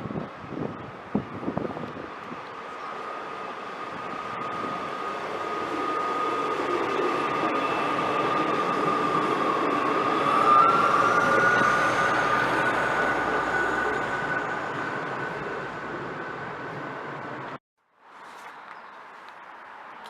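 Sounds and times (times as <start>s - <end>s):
train approaching: 0.0s - 17.6s.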